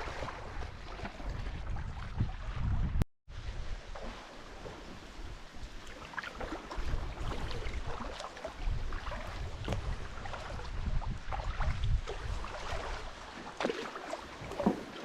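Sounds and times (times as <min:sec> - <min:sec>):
water splashing and dripping: 0:00.0 - 0:03.0, 0:03.8 - 0:15.0
wind rumbling on microphone: 0:00.0 - 0:13.4.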